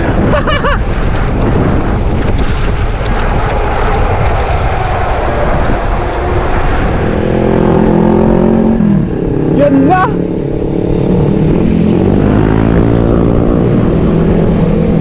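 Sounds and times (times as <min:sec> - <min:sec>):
motorcycle engine rumble: 0:00.0 - 0:15.0
wind rushing over microphone: 0:00.0 - 0:15.0.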